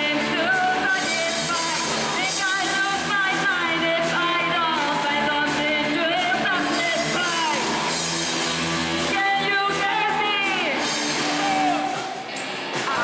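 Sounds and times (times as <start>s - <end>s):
woman singing lead: 0.0s - 7.9s, 9.0s - 12.1s
drum kit: 0.0s - 13.0s
electric guitars: 0.0s - 13.0s.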